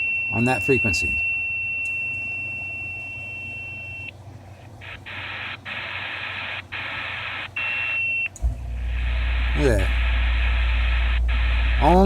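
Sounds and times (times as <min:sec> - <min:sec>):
steady high radio tone: 0:00.0 - 0:04.1, 0:04.8 - 0:12.0.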